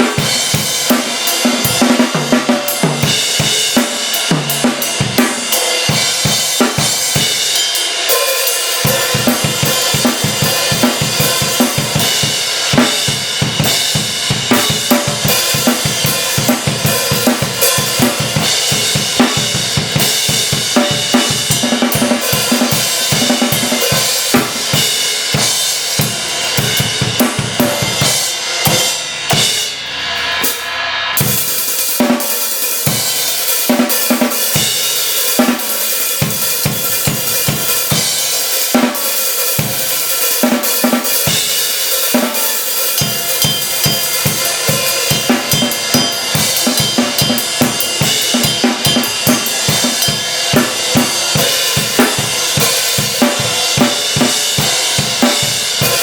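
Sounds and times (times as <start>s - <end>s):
drum kit groove: 0.0s - 56.0s
cymbals wash: 5.6s - 21.6s, 22.2s - 56.0s.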